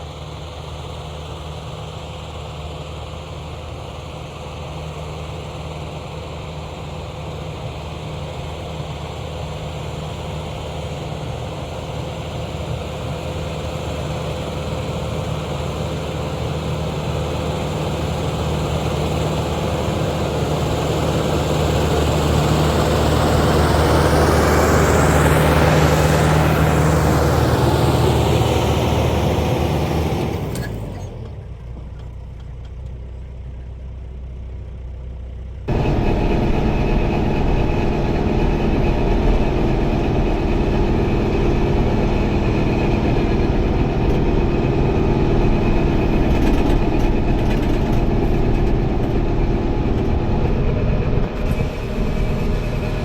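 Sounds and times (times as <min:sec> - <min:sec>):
tractor engine with rotary tiller: 0:00.0 - 0:53.0.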